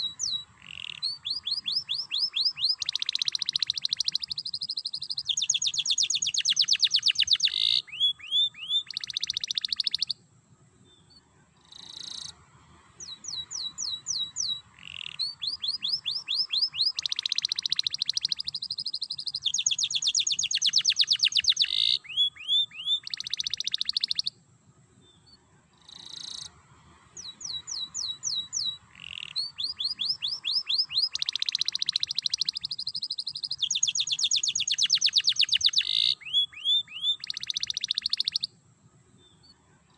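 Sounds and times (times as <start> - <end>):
canary singing trills: 0.0 - 10.2, 13.0 - 24.4, 27.2 - 38.6.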